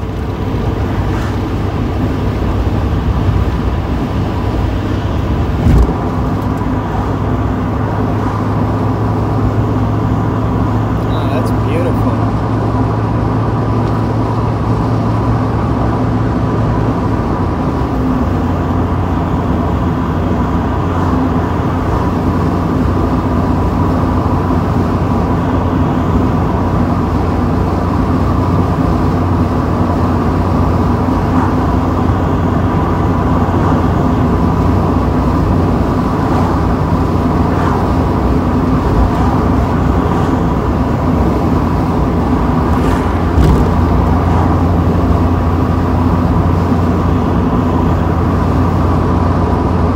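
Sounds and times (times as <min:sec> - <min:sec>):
car engine droning: 0:00.0 - 0:49.9
heavy wind noise: 0:00.0 - 0:49.9
road noise: 0:00.0 - 0:49.9.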